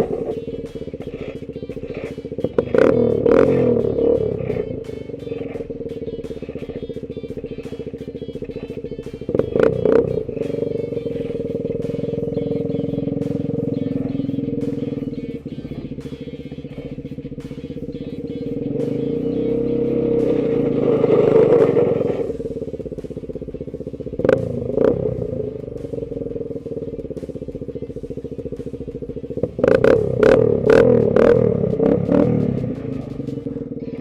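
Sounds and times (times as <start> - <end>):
atv engine running under load: 0.0 - 34.0
rock background music: 0.0 - 34.0.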